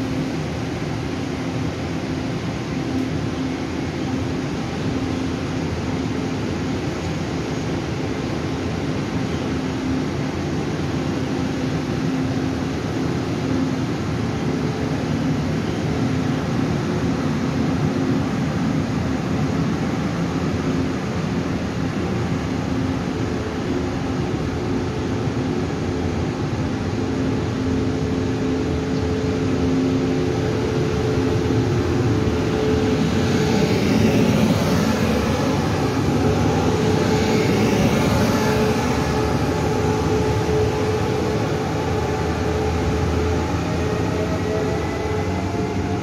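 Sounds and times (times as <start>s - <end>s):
train wheels on rail: 0.0s - 46.0s.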